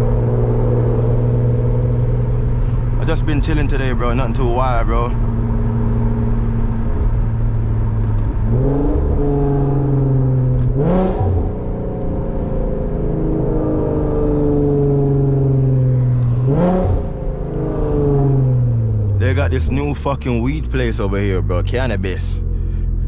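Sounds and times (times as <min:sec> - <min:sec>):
car engine and loud exhaust: 0:00.0 - 0:23.0.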